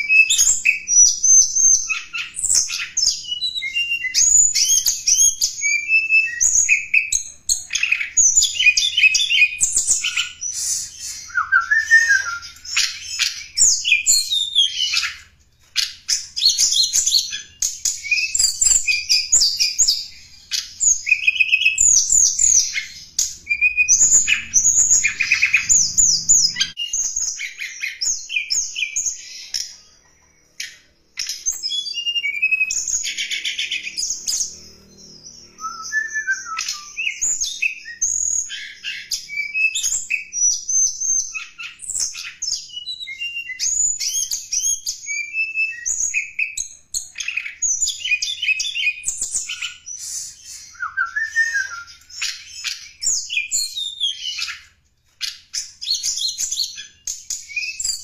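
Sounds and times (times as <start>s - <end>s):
bird chirps and trills: 0.0s - 58.0s.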